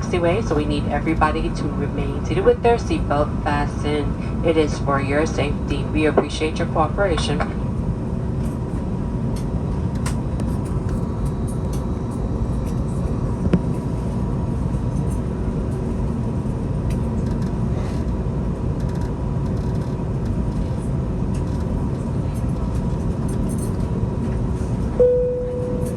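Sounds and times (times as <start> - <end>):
airplane cabin rumble: 0.0 - 25.9.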